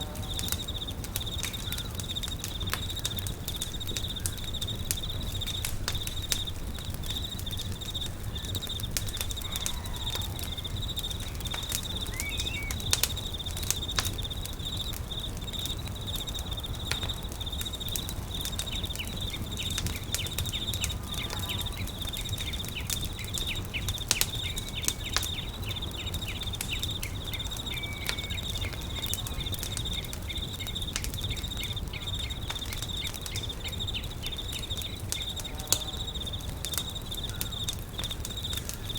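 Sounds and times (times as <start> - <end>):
bird-like chirps: 0.0 - 38.9
campfire crackling and popping: 0.0 - 38.9
insect trilling: 0.0 - 38.9.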